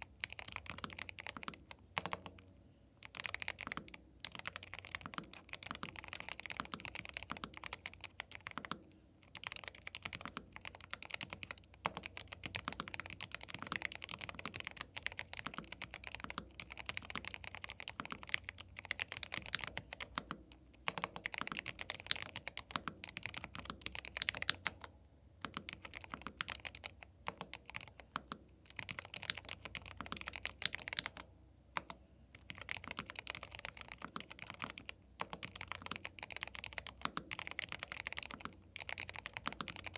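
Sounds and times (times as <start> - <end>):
mechanical keyboard typing: 0.0 - 2.4, 3.0 - 39.9.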